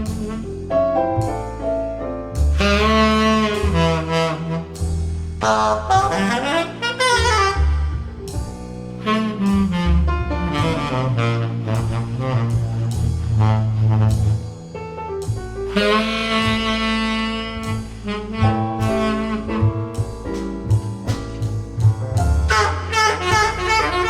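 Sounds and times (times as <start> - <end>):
jazz ballad over loudspeakers: 0.0 - 24.0
low bass notes: 0.0 - 24.0.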